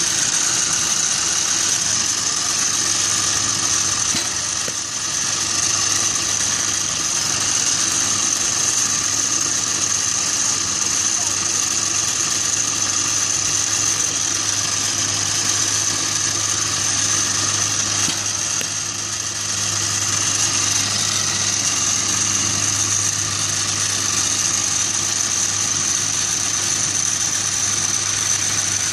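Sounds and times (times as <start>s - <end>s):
high-pitched whine: 0.0s - 28.9s
mechanical drone: 0.0s - 28.9s.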